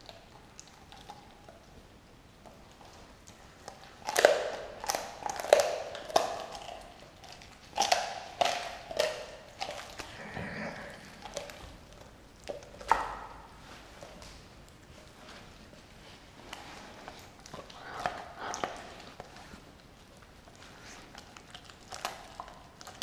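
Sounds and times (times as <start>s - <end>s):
dog crunching on bone: 0.0s - 23.0s.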